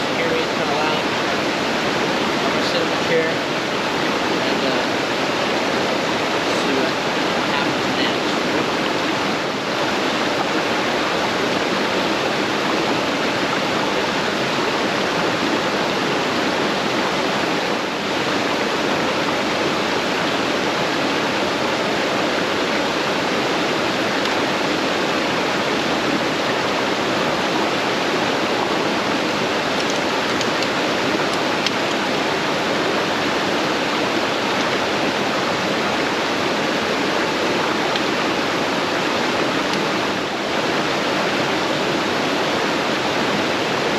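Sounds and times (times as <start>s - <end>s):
creek water rushing: 0.0s - 43.9s.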